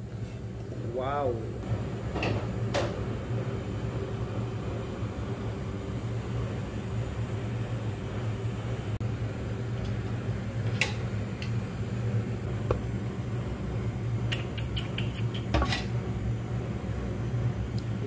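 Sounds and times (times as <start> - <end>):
kitchen fan humming: 0.0 - 18.0.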